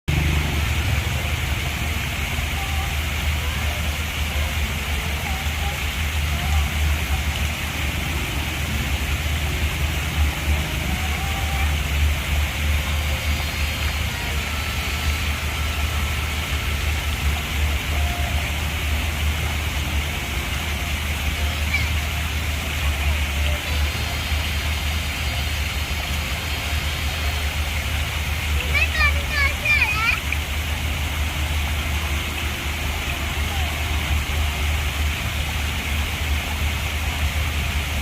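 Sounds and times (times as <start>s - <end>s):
waterfall rushing: 0.1s - 38.0s.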